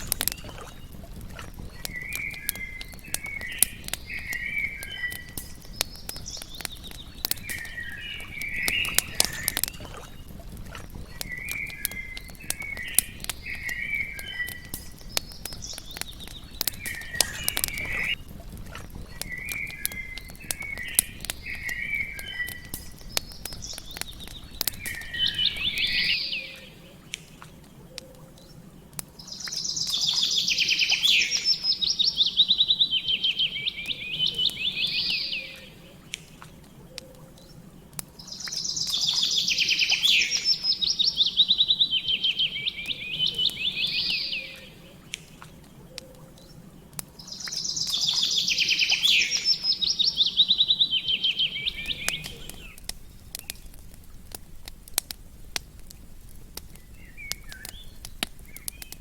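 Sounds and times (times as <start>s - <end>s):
campfire crackling: 0.0s - 59.0s
songbirds warbling: 0.0s - 59.0s.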